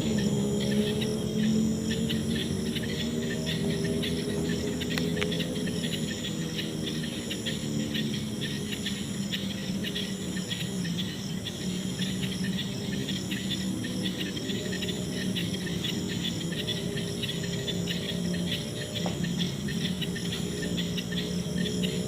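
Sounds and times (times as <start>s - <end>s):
crickets and insects chirring: 0.0s - 22.0s
insect high buzzing notes: 0.0s - 22.0s.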